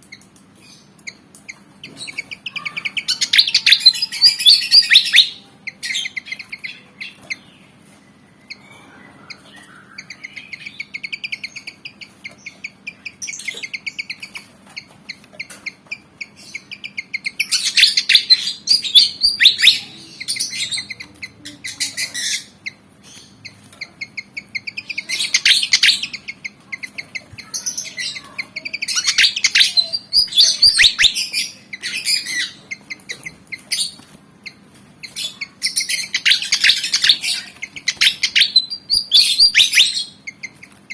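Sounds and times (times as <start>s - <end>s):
bird chirping song: 0.0s - 40.9s.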